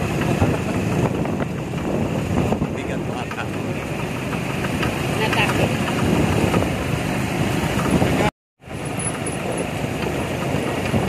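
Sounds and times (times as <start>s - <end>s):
road traffic noise: 0.0s - 11.0s
vehicle road noise: 0.0s - 11.0s
wind on microphone: 0.0s - 11.0s.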